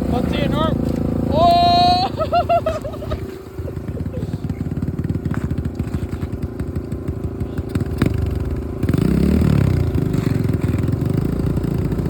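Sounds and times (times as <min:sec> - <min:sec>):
small motorbike engine revving: 0:00.0 - 0:12.0.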